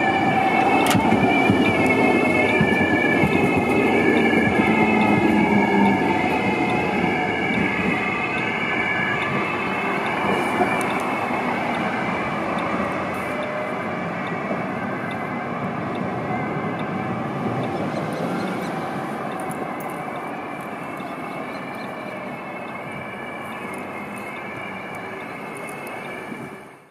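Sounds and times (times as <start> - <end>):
police siren: 0.0 - 26.9
street traffic: 0.0 - 26.9
tram rumbling and squealing: 0.0 - 26.9.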